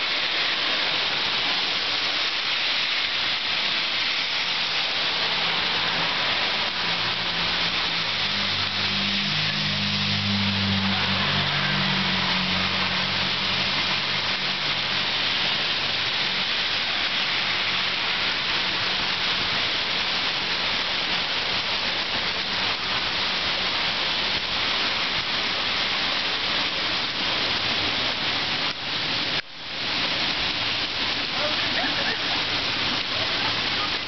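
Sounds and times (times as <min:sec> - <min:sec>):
heavy rain pouring on street: 0:00.0 - 0:34.0.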